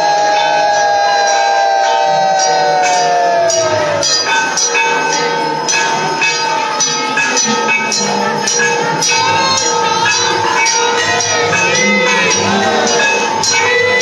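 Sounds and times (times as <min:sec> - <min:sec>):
bells ringing rapidly: 0:00.0 - 0:14.0
long held bell tone: 0:00.0 - 0:14.0.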